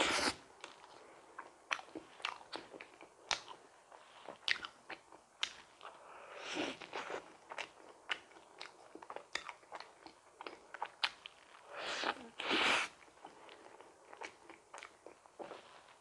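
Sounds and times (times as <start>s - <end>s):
person chewing a donut: 0.0s - 16.0s.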